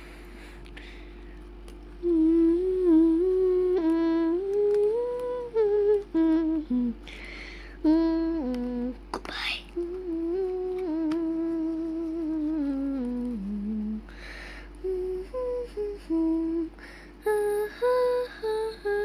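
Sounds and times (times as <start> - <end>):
person humming a slow tune: 1.9 - 19.0.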